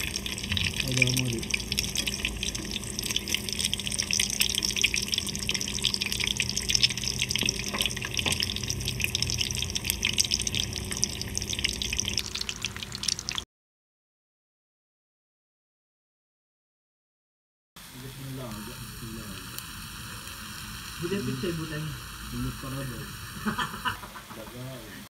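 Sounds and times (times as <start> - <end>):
deep-frying oil sizzling: 0.0 - 13.4, 17.8 - 25.0.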